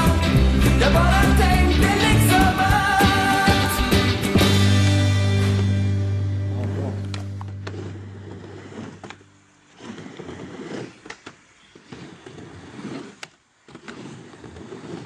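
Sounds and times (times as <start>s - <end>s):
skateboard wheels rolling on ramp: 0.0s - 15.0s.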